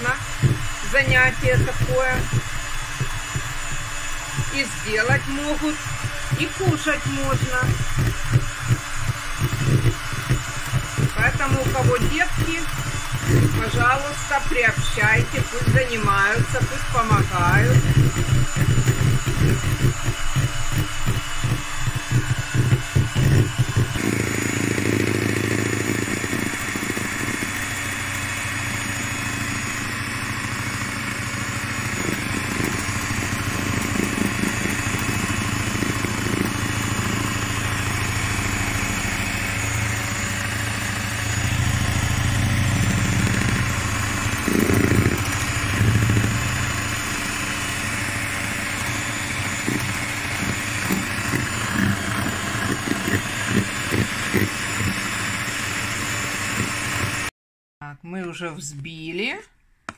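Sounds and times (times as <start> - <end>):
electric hand mixer running: 0.0 - 57.3.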